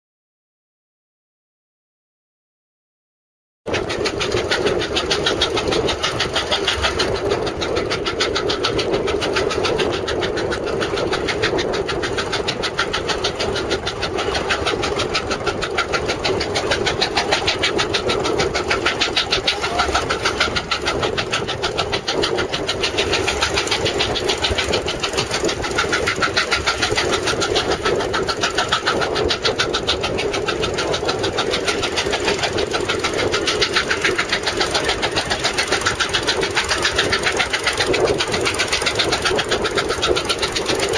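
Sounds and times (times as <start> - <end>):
steam engine exhaust chuffing: 3.7 - 40.9.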